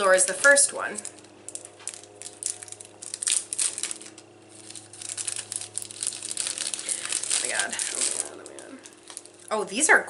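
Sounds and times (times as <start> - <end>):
plastic wrapper crinkling: 0.0 - 9.6
low hum: 0.0 - 10.0.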